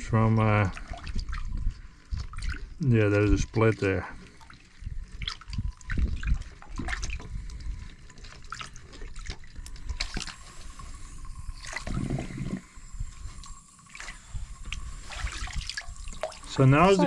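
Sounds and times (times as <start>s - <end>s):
water dribbling and gurgling: 0.0s - 17.0s
water drips and splashes: 0.0s - 17.0s.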